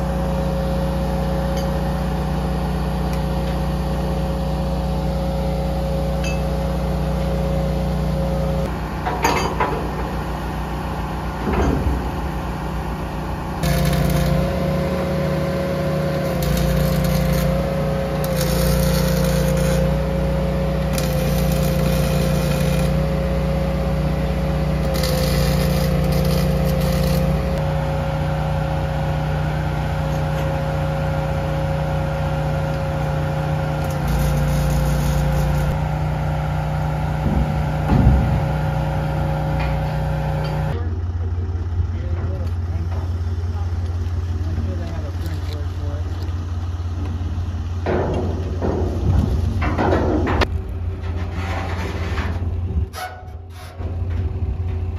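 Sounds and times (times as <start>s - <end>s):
diesel engine hum with whine: 0.0s - 54.9s.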